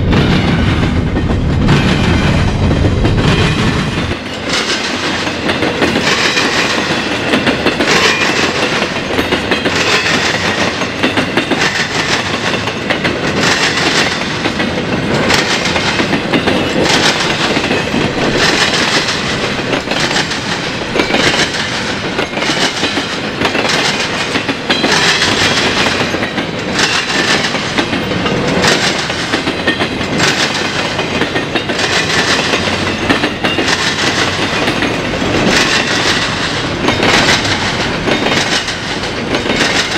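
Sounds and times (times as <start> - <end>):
train wheels clattering over crossing: 0.0 - 39.9.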